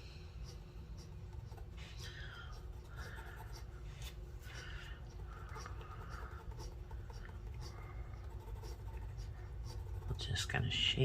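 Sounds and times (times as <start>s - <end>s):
faint low hum: 0.0s - 11.0s
pencil scratching on paper: 0.0s - 11.0s.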